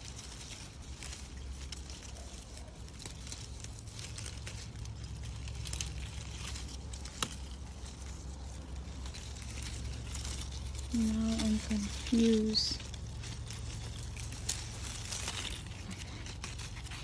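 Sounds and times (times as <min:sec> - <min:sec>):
leaves rustling and crackling: 0:00.0 - 0:17.0
low rumble: 0:00.0 - 0:17.0.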